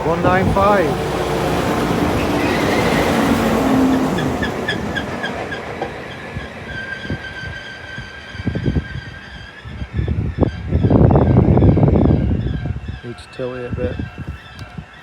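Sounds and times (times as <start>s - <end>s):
diesel train slowing: 0.0s - 15.0s
high squeal from wheels: 0.6s - 15.0s.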